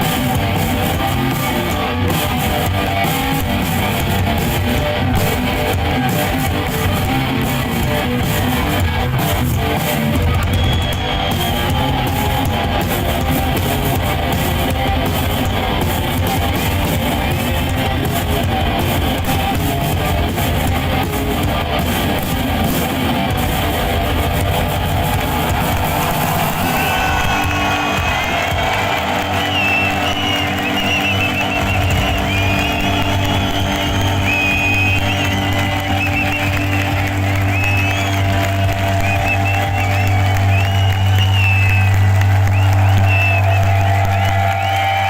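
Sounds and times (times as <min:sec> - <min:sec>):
electric guitar: 0:00.0 - 0:45.0
live rock band: 0:00.0 - 0:45.0.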